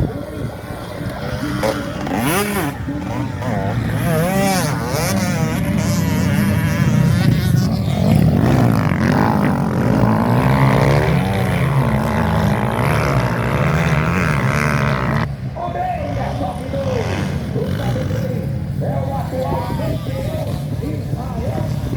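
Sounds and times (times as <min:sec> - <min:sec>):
motorcycle engines revving: 0:00.0 - 0:21.9.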